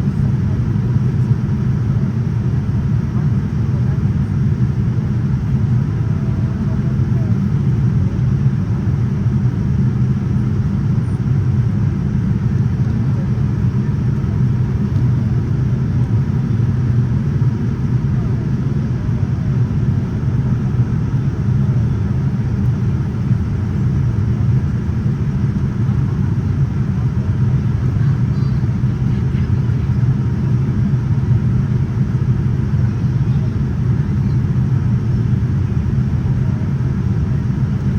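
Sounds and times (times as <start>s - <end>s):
airplane cabin rumble: 0.0s - 37.9s.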